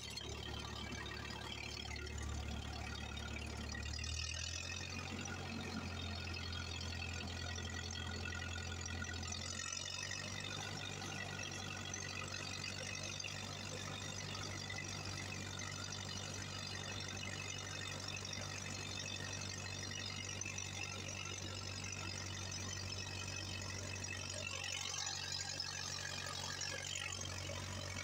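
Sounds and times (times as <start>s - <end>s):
tractor engine droning: 0.0s - 28.0s.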